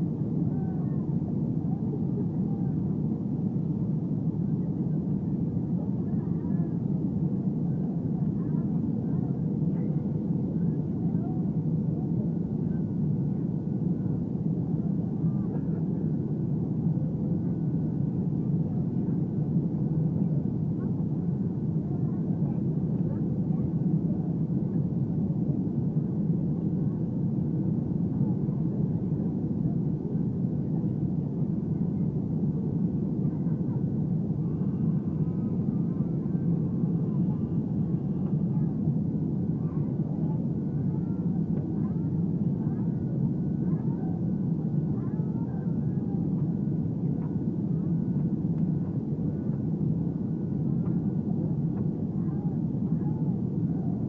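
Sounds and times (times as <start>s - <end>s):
airplane engines rumbling: 0.0s - 54.0s.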